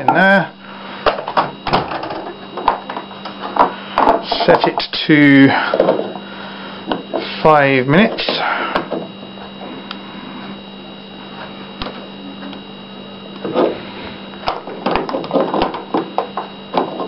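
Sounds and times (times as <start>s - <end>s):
faint high whine: 0.0s - 17.0s
microwave electrical hum: 0.0s - 17.0s.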